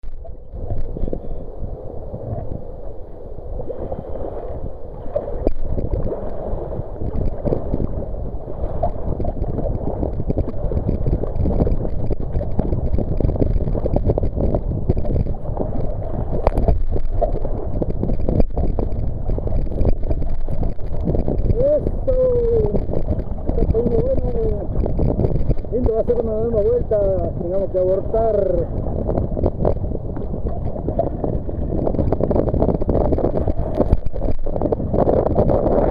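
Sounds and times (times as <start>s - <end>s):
water lapping against kayak: 0.0s - 35.9s
wind buffeting microphone: 0.0s - 35.9s.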